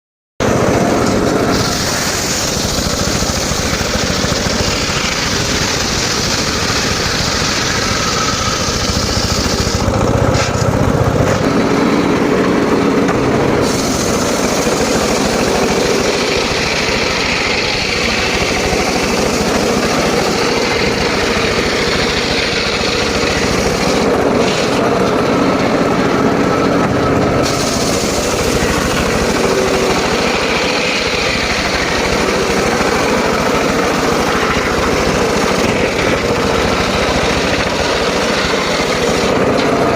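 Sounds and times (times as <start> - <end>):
circular saw cutting wood: 0.4 - 39.9.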